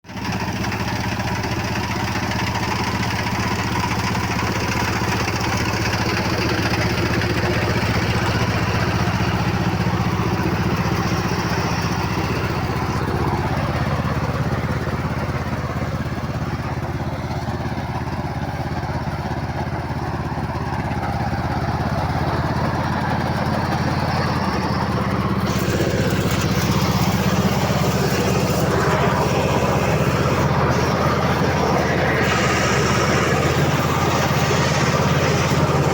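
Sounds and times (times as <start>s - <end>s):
harvester engine running: 0.0s - 35.9s.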